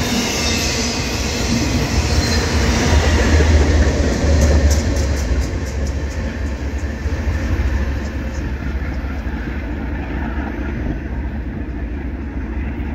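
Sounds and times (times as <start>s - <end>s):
freight train rumbling past: 0.0s - 12.9s.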